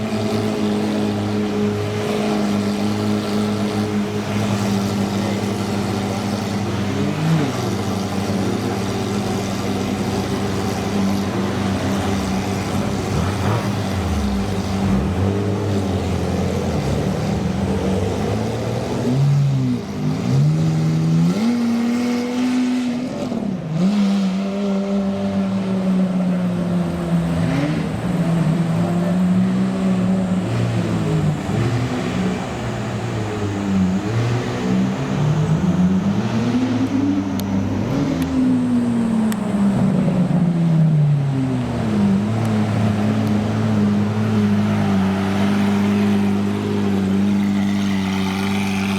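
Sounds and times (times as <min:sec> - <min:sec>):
car engines idling: 0:00.0 - 0:23.9, 0:26.1 - 0:48.9
car engines revving past: 0:00.0 - 0:48.9.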